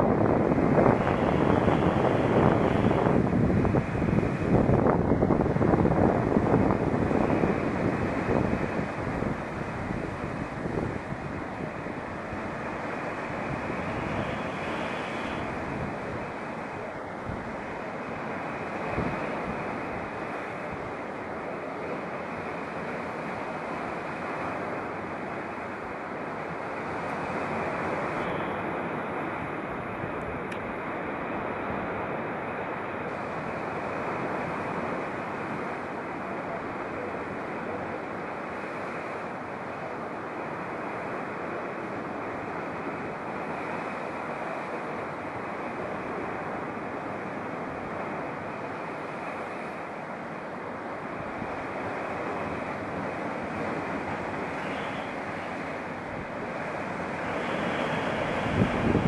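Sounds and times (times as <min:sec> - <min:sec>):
choppy sea washing: 0:00.0 - 0:59.0
waves breaking on rocky shore: 0:00.0 - 0:59.0
wind: 0:00.0 - 0:59.0.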